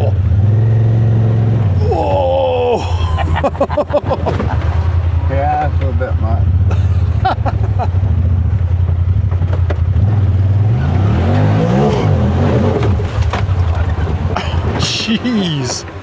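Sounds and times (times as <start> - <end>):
utility vehicle engine revving: 0.0 - 14.8.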